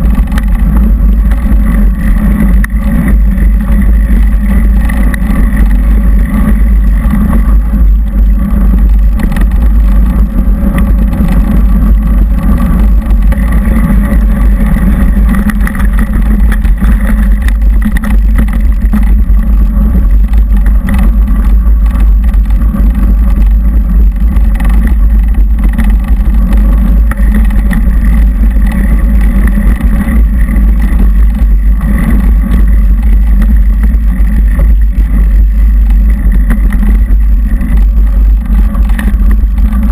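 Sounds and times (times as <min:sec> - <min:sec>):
bike rattling and knocking: 0:00.0 - 0:39.9
wind and vibration rumble: 0:00.0 - 0:39.9.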